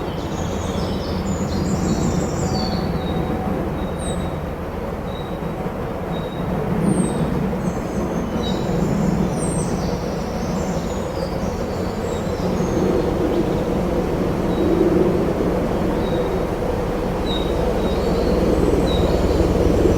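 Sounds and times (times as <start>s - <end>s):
low rumble of wind: 0.0s - 19.9s.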